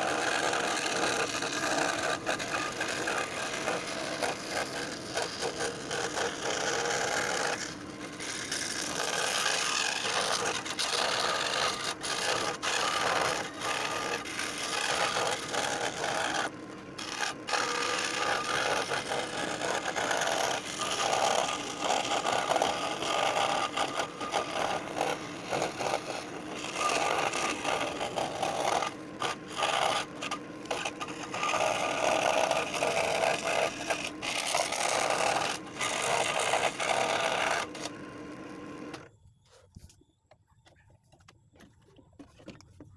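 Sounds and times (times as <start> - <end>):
scroll saw cutting wood: 0.0 - 39.1.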